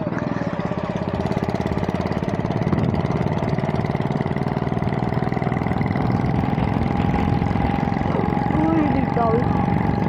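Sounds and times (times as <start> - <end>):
small vehicle engine running: 0.0 - 10.0.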